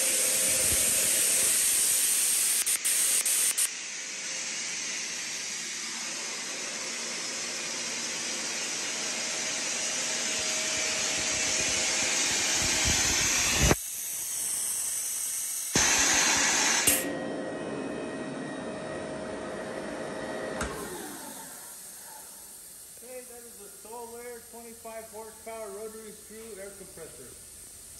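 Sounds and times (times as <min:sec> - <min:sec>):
air compressor hissing: 0:00.0 - 0:17.1, 0:20.6 - 0:27.9.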